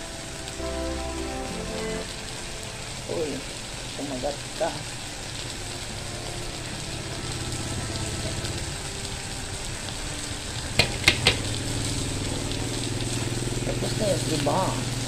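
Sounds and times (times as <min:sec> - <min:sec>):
meat sizzling on grill pan: 0:02.6 - 0:15.0.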